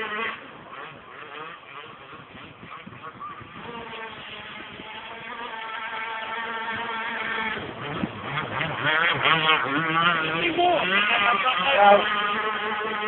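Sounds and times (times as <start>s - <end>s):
model boat two-stroke engine revving: 0.0s - 13.0s.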